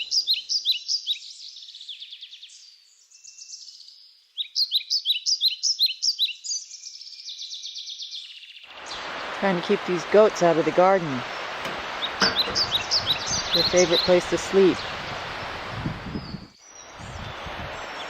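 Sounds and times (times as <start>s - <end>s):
songbirds chirping and trilling: 0.0s - 18.0s.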